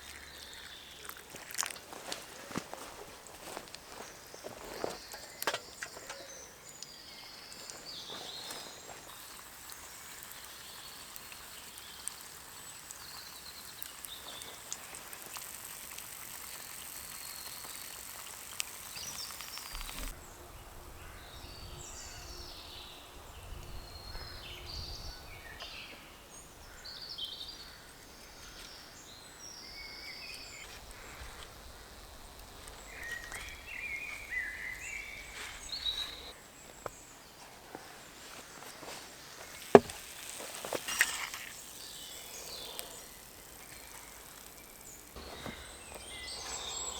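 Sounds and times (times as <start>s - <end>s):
birds chirping: 0.0s - 46.9s
steady high hiss: 1.3s - 46.9s.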